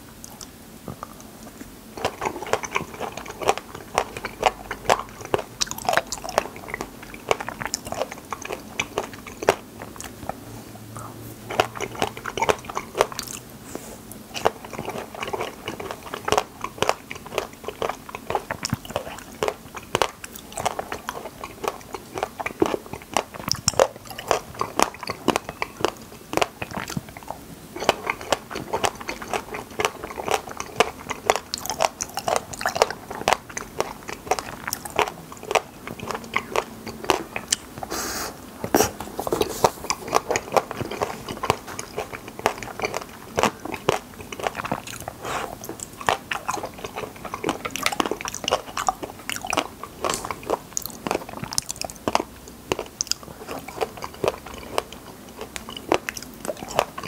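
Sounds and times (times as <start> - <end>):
chewing raspberries: 0.1 - 57.0.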